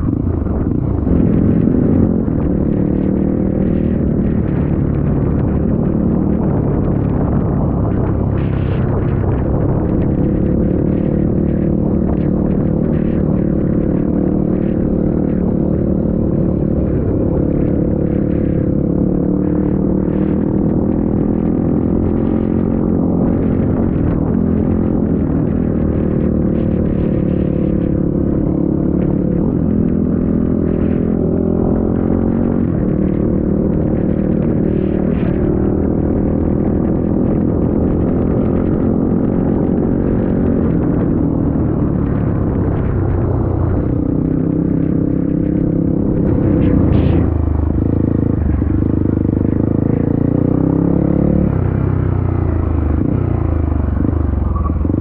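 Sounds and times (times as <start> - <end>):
low rumble: 0.0 - 55.0
motorcycle engine revving: 0.0 - 55.0.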